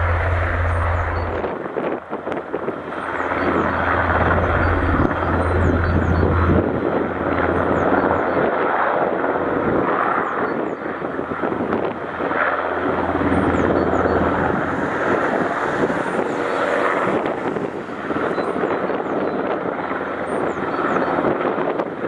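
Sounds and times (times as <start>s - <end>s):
helicopter rotor and engines: 0.0s - 22.0s.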